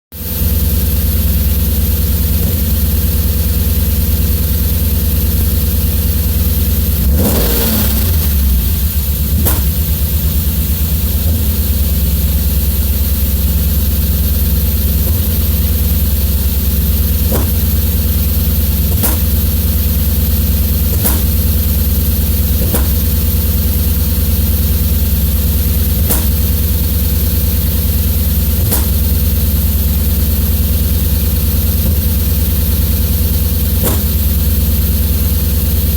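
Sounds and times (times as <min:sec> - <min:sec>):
engine misfire pops: 0:00.1 - 0:35.9
car engine humming: 0:00.2 - 0:35.9.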